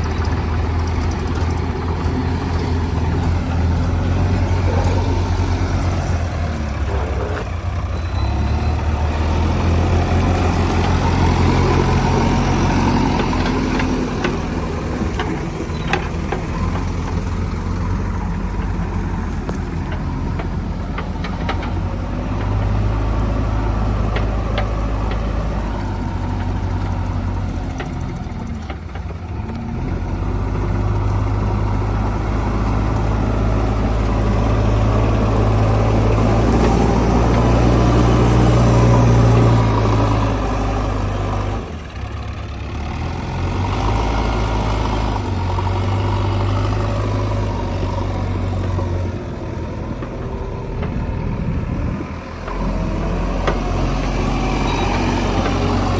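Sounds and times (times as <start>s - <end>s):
diesel engine under load: 0.0s - 55.9s.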